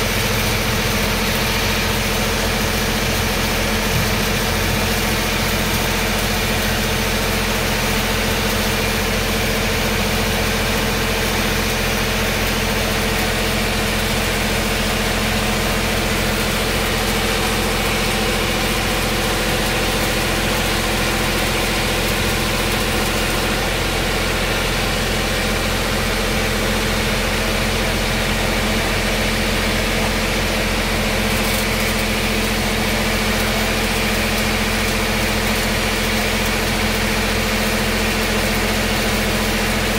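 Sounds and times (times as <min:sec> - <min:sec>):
engine drone: 0:00.0 - 0:39.9
welding arc crackling and hissing: 0:00.0 - 0:39.9.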